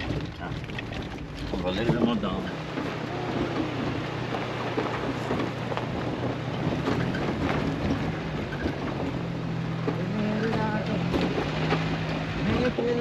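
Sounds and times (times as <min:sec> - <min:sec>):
tyres and bodywork crackles and knocks: 0:00.0 - 0:13.0
vehicle engine humming: 0:00.0 - 0:13.0.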